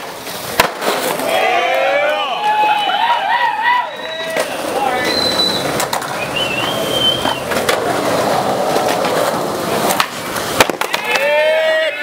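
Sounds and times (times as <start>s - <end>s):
skateboard clacks: 0.0s - 3.3s, 4.2s - 12.0s
skateboard wheels rolling on concrete: 0.0s - 12.0s.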